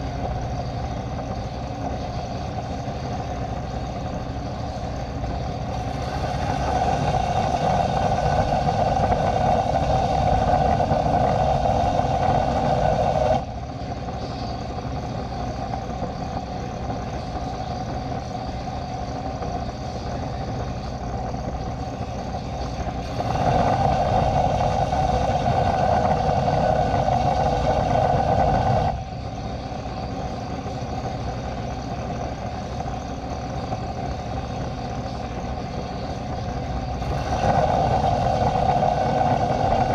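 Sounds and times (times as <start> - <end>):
loud high hum: 0.0 - 39.9
machine low roar: 0.0 - 39.9.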